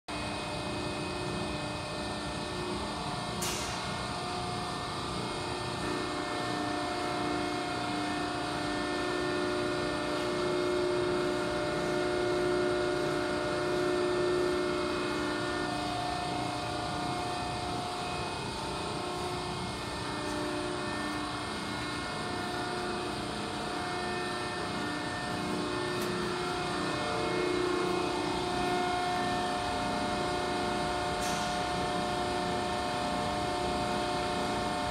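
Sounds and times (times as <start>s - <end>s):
hydraulic pump and motor humming: 0.1s - 34.9s.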